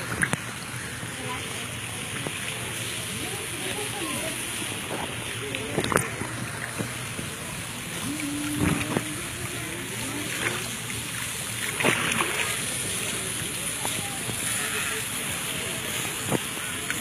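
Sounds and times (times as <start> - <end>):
water sloshing and lapping: 0.0 - 17.0
water splashes: 0.0 - 17.0.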